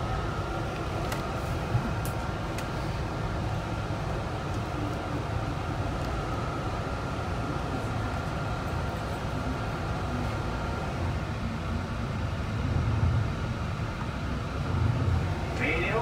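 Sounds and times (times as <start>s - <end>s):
wheels rumbling on track: 0.0s - 16.0s.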